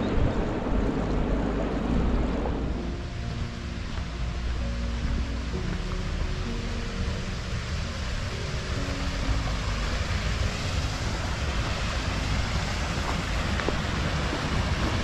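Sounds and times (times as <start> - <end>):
stream rushing over stones: 0.0 - 15.0
wind buffeting microphone: 0.0 - 15.0.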